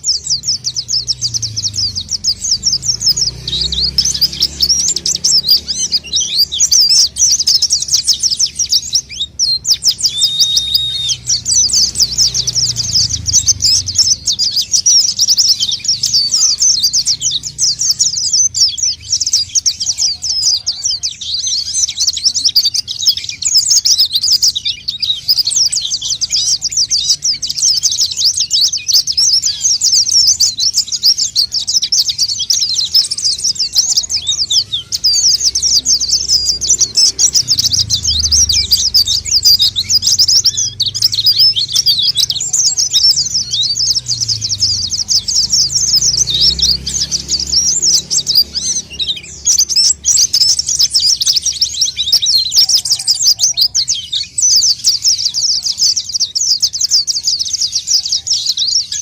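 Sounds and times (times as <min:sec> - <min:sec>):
birds twittering chirps: 0:00.0 - 0:59.0.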